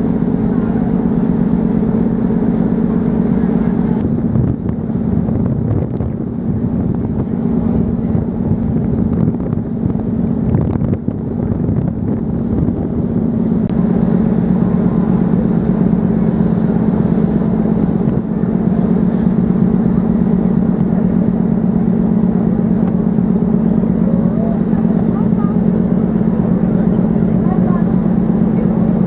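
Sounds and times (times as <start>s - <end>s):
ferry engines droning: 0.0s - 29.0s.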